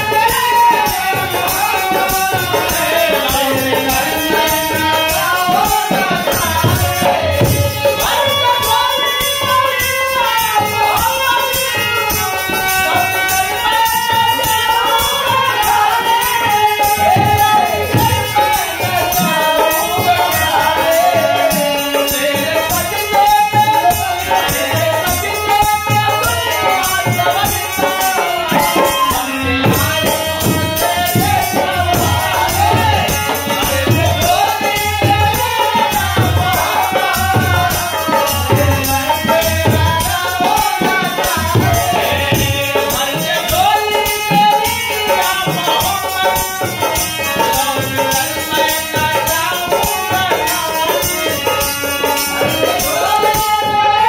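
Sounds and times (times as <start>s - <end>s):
harmonium: 0.0s - 54.0s
men singing: 0.0s - 54.0s
hand drum beats: 10.5s - 54.0s.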